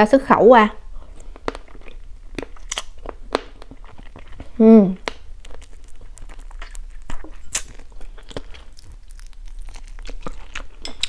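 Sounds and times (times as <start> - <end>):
person chewing crunchy food: 0.8 - 11.0.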